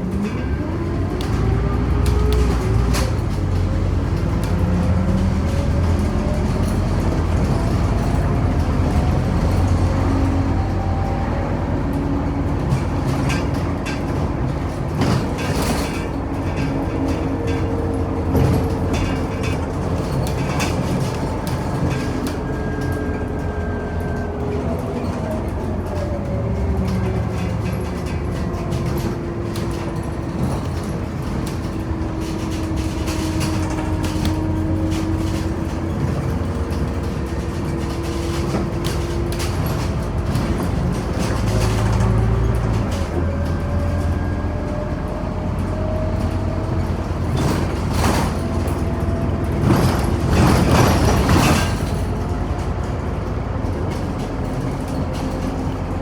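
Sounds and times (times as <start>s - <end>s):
bus body knocks and rattles: 0.0s - 56.0s
bus diesel drone with whine: 0.0s - 56.0s.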